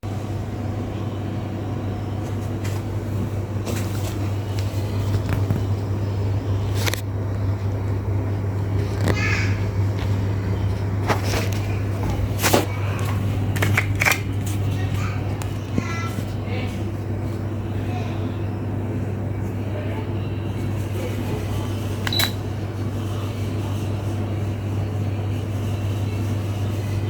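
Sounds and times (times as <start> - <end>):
ceiling fan motor hum: 0.0 - 27.0.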